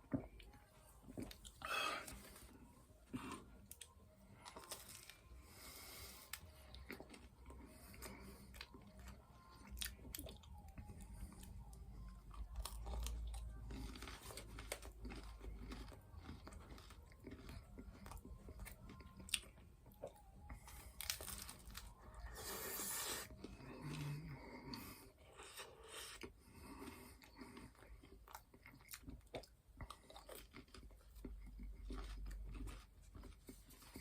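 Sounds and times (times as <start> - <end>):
crunchy chewing: 3.1 - 34.0.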